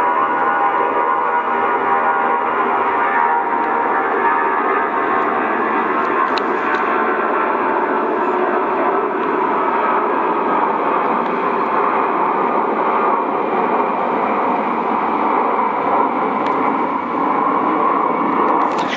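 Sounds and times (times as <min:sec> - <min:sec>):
jet engine roar: 0:00.0 - 0:18.9.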